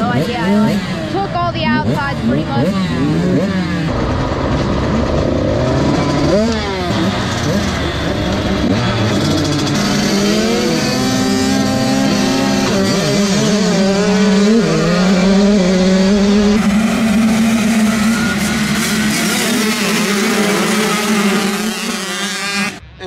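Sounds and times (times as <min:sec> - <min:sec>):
dirt bike accelerating hard: 0:00.0 - 0:22.9
dirt bikes racing past: 0:00.0 - 0:23.0.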